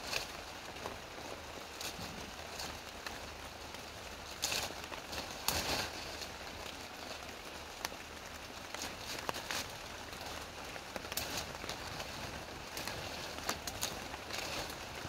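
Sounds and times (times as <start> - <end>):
rain on foliage: 0.0 - 15.0.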